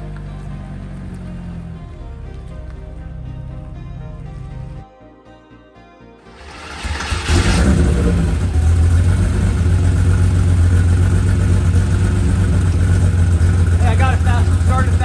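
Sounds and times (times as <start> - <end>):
car engine starting and idling: 0.0 - 4.8, 6.3 - 15.0.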